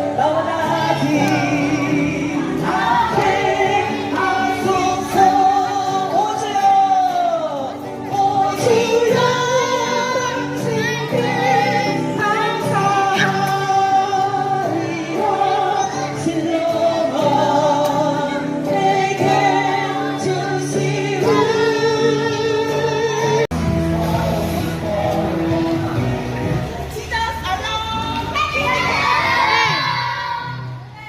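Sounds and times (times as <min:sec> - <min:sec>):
musical accompaniment: 0:00.0 - 0:31.0
voices singing worship song: 0:00.0 - 0:31.0.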